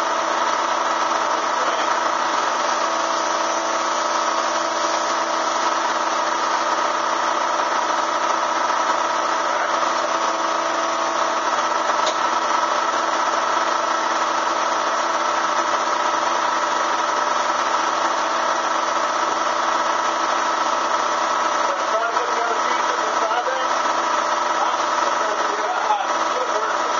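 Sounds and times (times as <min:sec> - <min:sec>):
vacuum motor humming: 0:00.0 - 0:26.9.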